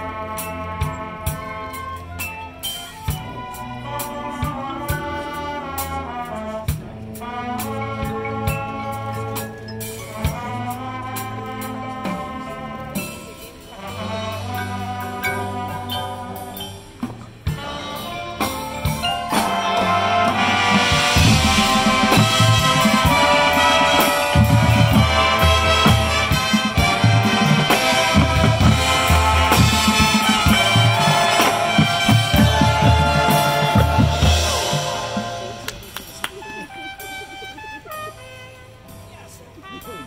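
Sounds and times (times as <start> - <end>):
marching band playing: 0.0 - 40.0.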